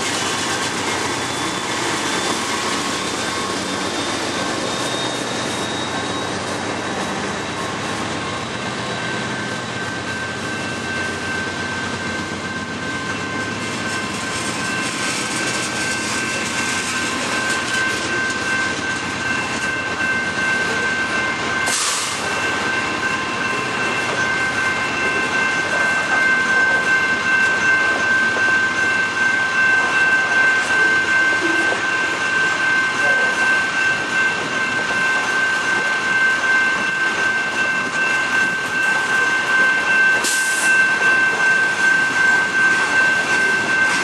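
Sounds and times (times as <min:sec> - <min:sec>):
high-pitched squeal: 0:00.0 - 0:44.0.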